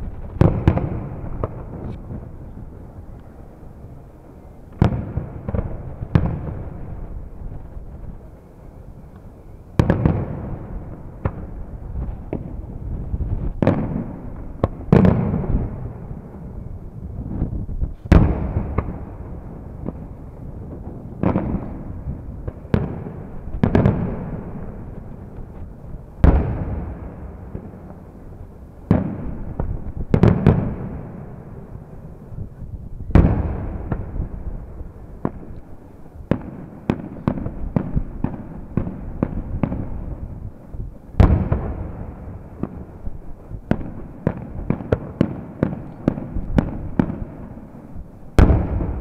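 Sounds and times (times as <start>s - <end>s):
firework bangs with echo: 0.0s - 2.6s, 4.7s - 8.0s, 9.8s - 31.7s, 33.1s - 35.6s, 36.2s - 40.6s, 41.2s - 49.0s.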